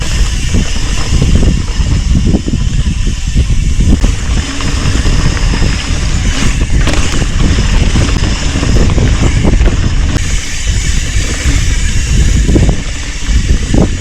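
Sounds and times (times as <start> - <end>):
mountain bike rumbling on trail: 0.0 - 14.0
wind buffeting microphone: 0.0 - 14.0.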